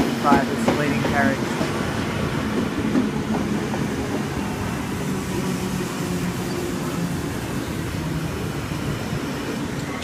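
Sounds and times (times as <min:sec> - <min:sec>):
low hum of train: 0:00.0 - 0:10.0
train carriages rumbling: 0:00.0 - 0:10.0.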